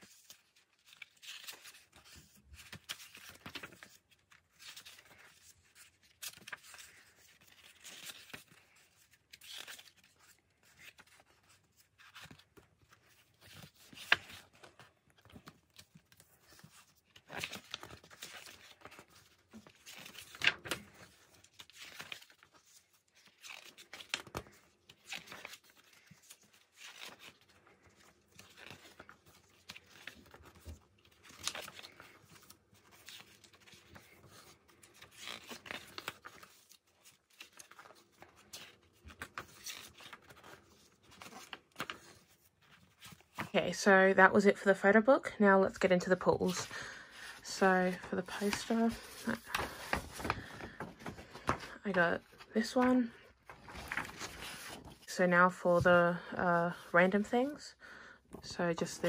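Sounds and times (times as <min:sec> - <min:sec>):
pages being turned: 0:00.0 - 0:43.5, 0:46.2 - 0:55.1.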